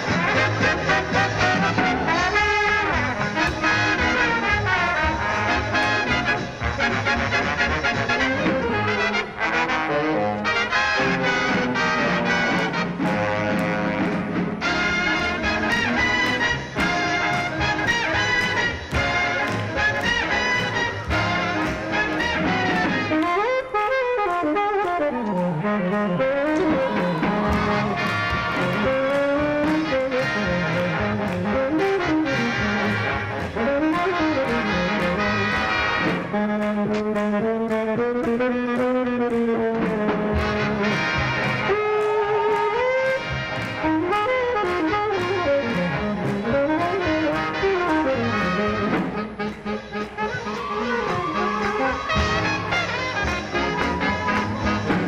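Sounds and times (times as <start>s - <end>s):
up-tempo swing jazz with horns: 0.0s - 55.0s.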